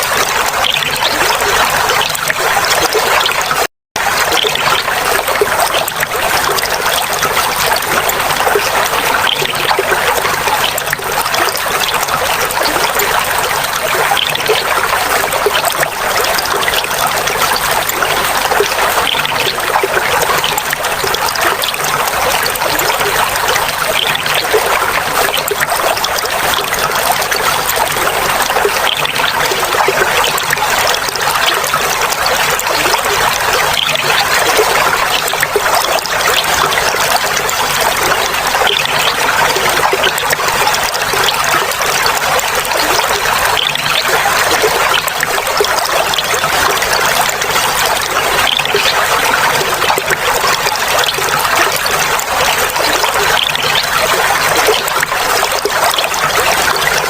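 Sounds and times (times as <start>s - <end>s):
water trickling and babbling: 0.0s - 57.0s.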